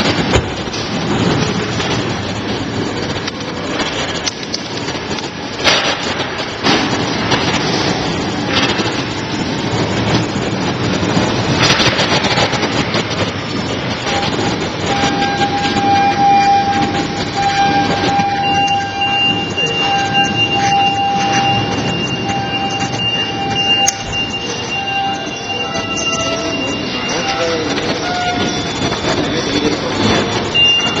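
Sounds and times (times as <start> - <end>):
high machine whine: 0.0 - 31.0
machinery clattering: 0.0 - 31.0.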